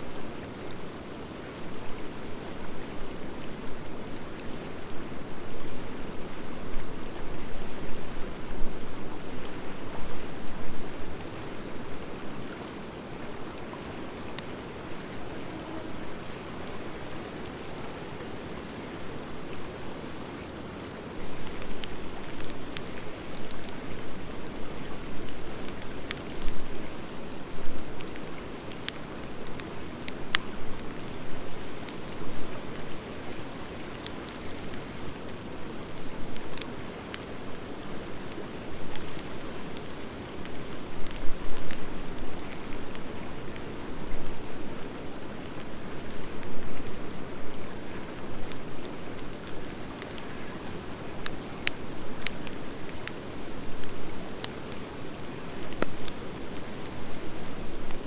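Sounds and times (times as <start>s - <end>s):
fire crackling and popping: 0.1s - 58.0s.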